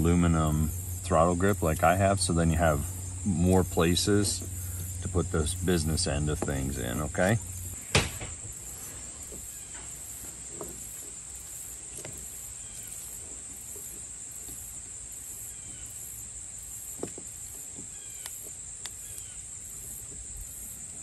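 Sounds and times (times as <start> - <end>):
high-pitched insect drone: 0.0 - 17.1.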